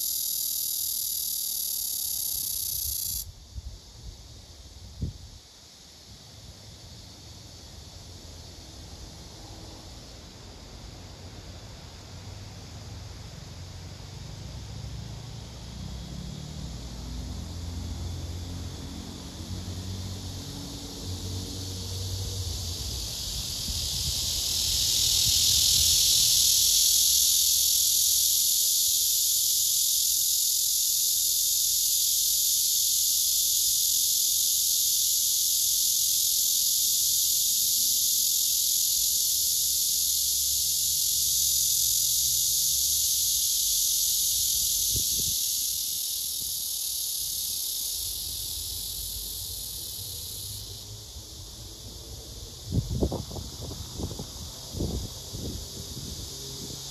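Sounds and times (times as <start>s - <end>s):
cicada buzzing: 0.0s - 3.7s, 4.3s - 56.9s.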